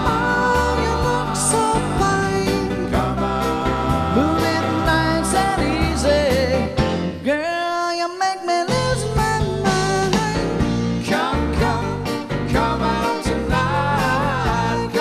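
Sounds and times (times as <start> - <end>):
band playing a song: 0.0 - 7.3, 8.7 - 15.0
person singing: 0.0 - 15.0.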